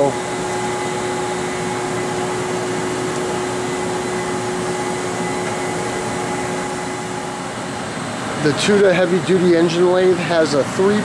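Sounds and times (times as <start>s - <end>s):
lathe running: 0.0s - 11.0s.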